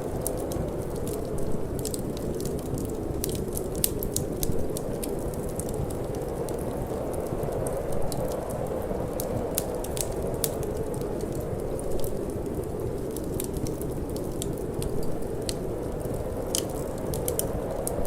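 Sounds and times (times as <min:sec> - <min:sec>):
low rush of wind: 0:00.0 - 0:18.0
wood fire crackling: 0:00.0 - 0:18.0.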